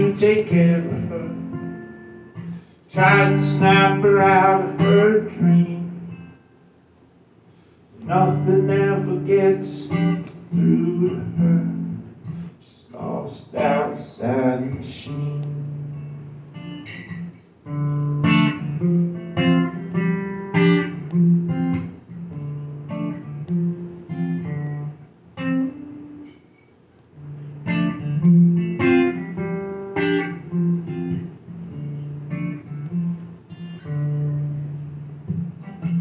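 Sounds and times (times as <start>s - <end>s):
acoustic guitar strumming: 0.0s - 6.7s, 8.0s - 36.0s.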